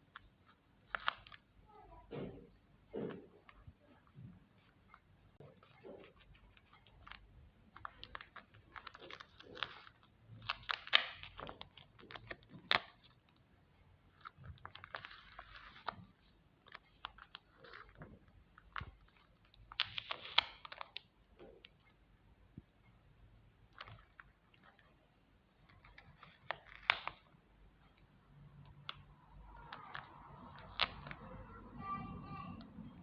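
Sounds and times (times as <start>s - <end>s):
crinkling craft materials: 0.0s - 33.0s.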